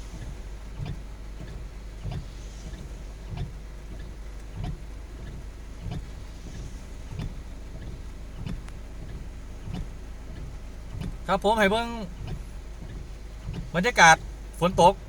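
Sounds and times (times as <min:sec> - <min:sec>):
heavy rain hissing: 0:00.0 - 0:15.0
low car hum: 0:00.0 - 0:15.0
windshield wipers sweeping: 0:00.0 - 0:15.0
wiper thump and click: 0:00.0 - 0:15.0.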